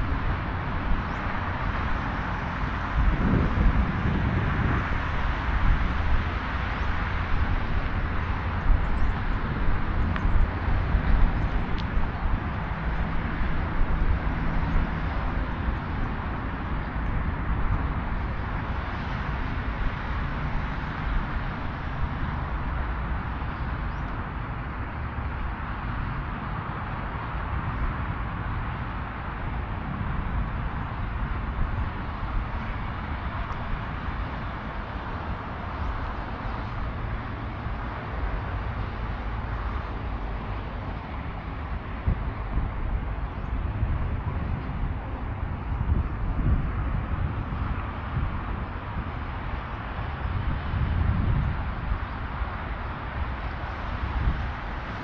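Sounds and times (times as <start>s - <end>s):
low rumble of traffic: 0.0s - 55.0s.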